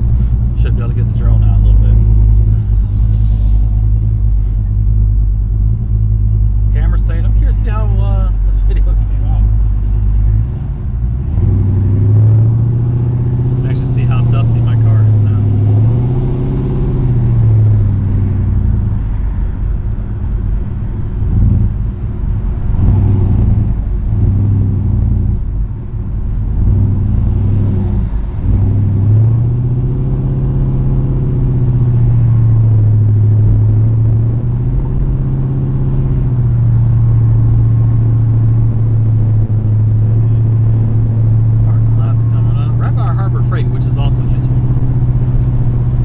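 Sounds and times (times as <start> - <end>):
car engine drone from inside: 0.0 - 46.0.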